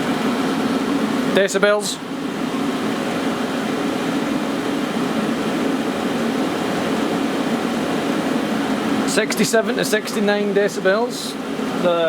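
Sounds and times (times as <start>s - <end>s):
blower fan hum: 0.0s - 12.0s
diesel air heater roaring: 0.0s - 12.0s.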